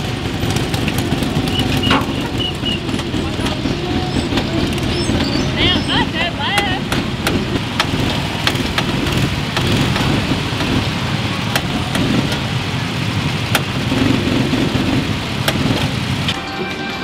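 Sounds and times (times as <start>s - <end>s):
go-kart engines idling: 0.0s - 17.0s.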